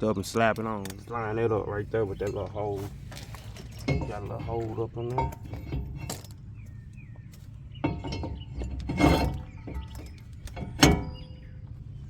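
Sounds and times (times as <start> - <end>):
brake rotor clanking on wheel hub: 0.3 - 12.0.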